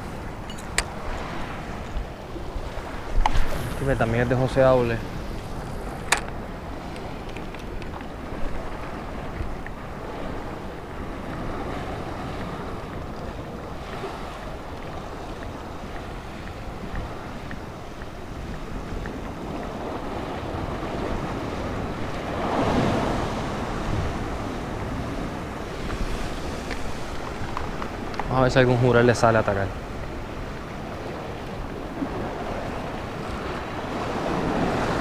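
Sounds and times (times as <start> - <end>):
waves washing against rocks: 0.0 - 35.0
wind buffeting microphone: 0.0 - 35.0.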